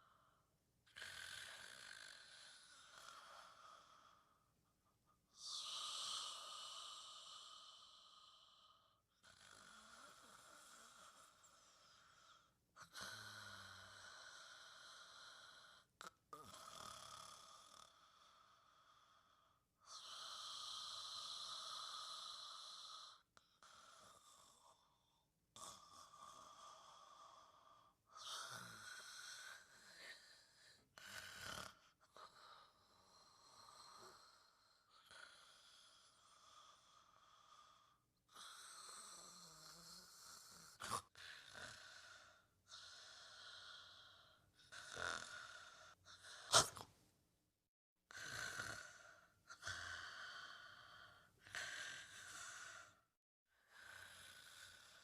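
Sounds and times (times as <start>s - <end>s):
person snoring softly: 0.0s - 4.6s, 5.3s - 47.0s, 48.1s - 55.0s.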